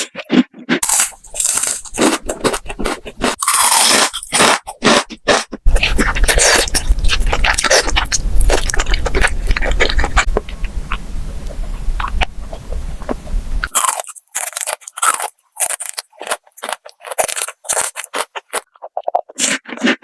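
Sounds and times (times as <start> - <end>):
crunchy chewing: 0.0 - 20.0.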